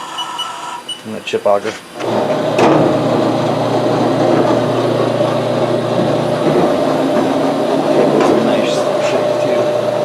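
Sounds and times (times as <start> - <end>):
conveyor motor humming: 2.0 - 10.0.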